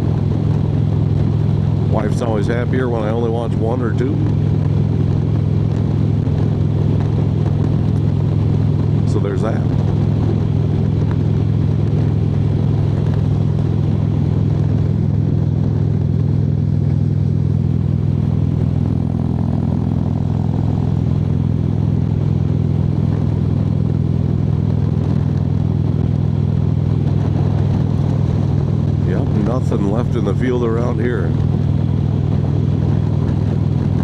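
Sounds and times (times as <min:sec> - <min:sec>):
motorcycle engine rumbling: 0:00.0 - 0:34.0.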